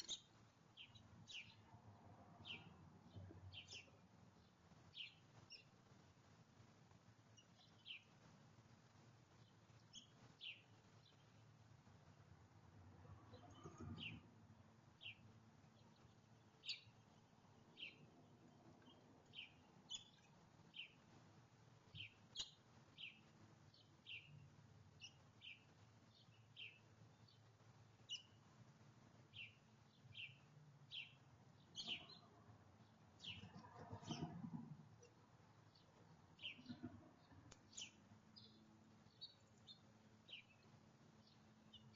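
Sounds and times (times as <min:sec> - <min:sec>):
small bird chirping: 0:00.0 - 0:01.7, 0:02.4 - 0:05.9, 0:07.3 - 0:08.2, 0:09.3 - 0:11.6, 0:13.3 - 0:14.3, 0:14.9 - 0:21.1, 0:21.8 - 0:28.4, 0:29.2 - 0:41.9.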